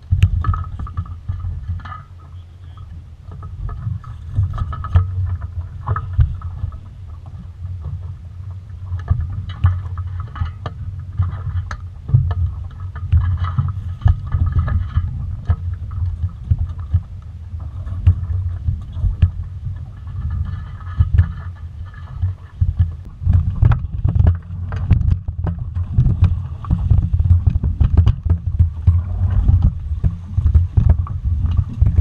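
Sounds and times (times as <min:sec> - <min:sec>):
boat knocks and taps: 0:00.0 - 0:32.0
water washing against hull: 0:00.0 - 0:32.0
wind rumble on microphone: 0:00.0 - 0:32.0.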